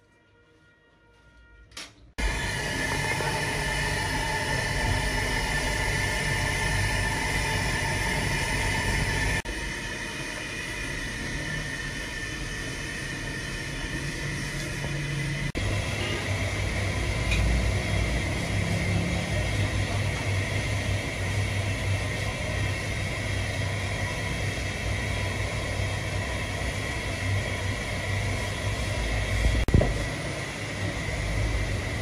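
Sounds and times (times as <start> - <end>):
gas burner roaring: 2.2 - 32.0.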